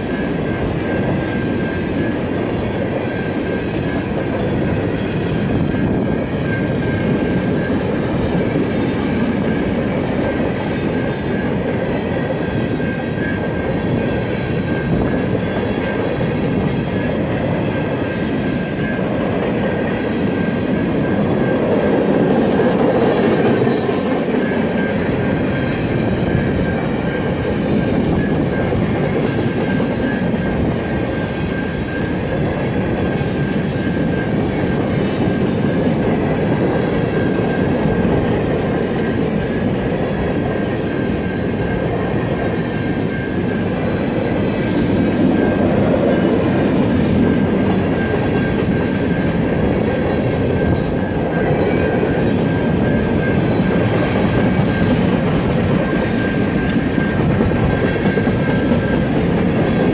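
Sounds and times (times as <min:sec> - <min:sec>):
crossing bell ringing: 0:00.0 - 0:59.9
freight train rumbling and clattering: 0:00.0 - 0:59.9.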